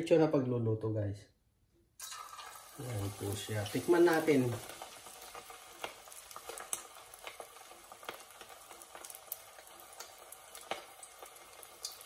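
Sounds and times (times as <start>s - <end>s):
meatball deep-frying in oil: 2.0s - 12.0s
oil crackling and popping: 2.0s - 12.0s.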